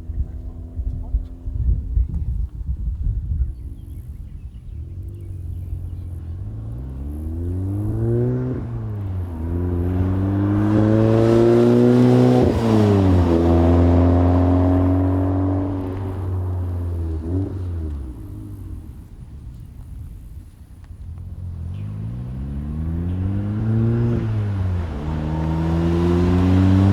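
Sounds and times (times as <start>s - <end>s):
car engine accelerating hard: 3.4s - 26.9s.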